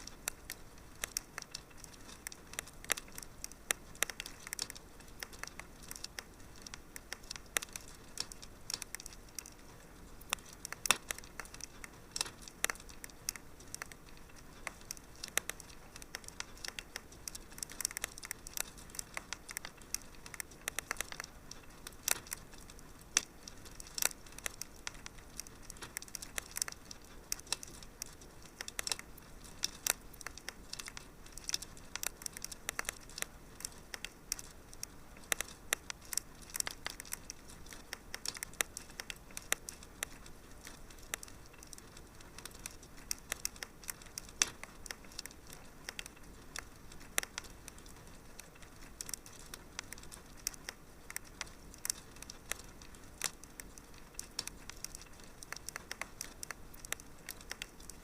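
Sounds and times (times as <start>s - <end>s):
soft steady hiss: 0.0s - 58.0s
wood fire crackling: 0.0s - 58.0s.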